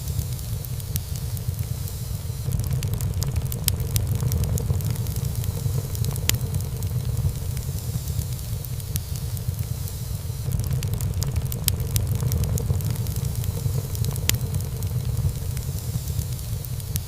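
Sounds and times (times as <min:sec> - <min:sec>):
fire burning in a fireplace: 0:00.0 - 0:17.0
wood crackling and popping: 0:00.0 - 0:17.0.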